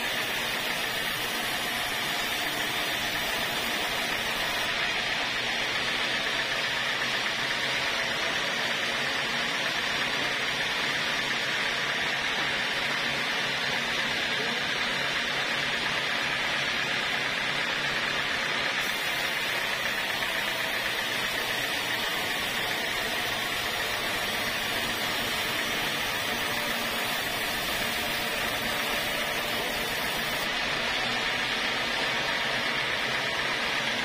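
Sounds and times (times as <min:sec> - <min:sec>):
band saw whirring: 0:00.0 - 0:34.0
saw blade cutting timber: 0:00.0 - 0:34.0.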